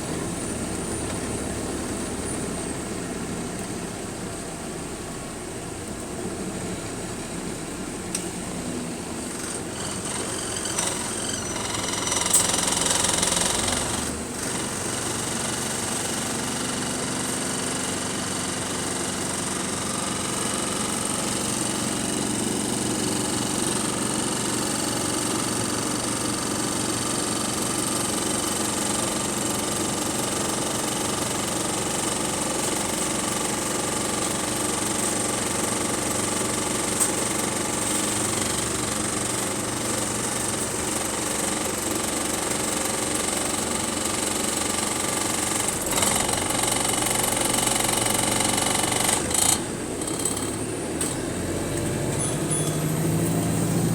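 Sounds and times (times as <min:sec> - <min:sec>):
diesel bus engine idling: 0:00.0 - 0:53.9.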